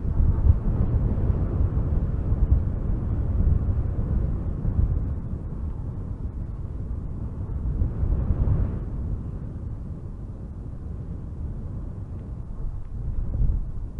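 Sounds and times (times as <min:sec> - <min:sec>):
wind gusting through trees: 0:00.0 - 0:13.9.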